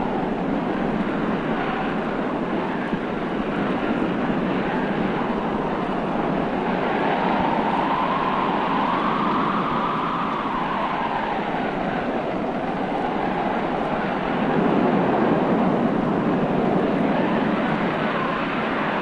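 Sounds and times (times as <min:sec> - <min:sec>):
howling storm wind: 0:00.0 - 0:19.0.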